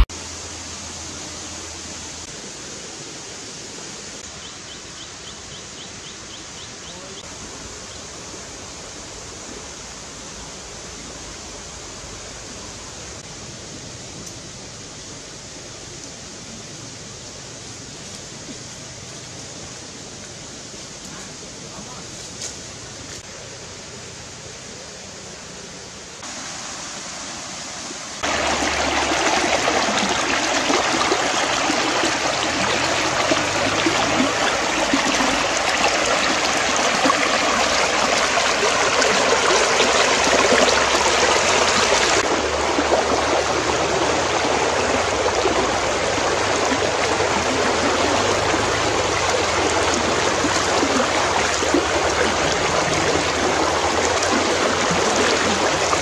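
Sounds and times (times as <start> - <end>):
stream rushing over stones: 0.0 - 24.0, 24.9 - 56.0.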